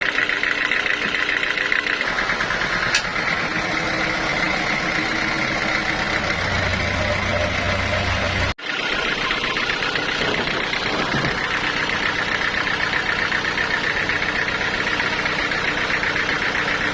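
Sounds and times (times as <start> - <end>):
sawmill machinery rattling: 0.0 - 16.9.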